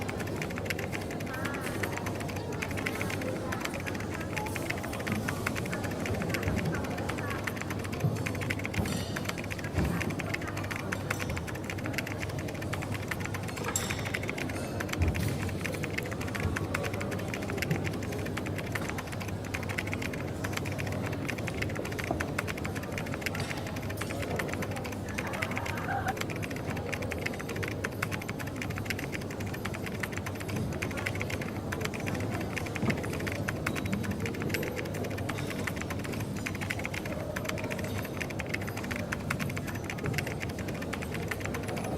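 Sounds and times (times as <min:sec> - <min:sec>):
typing on a keyboard: 0:00.0 - 0:41.9.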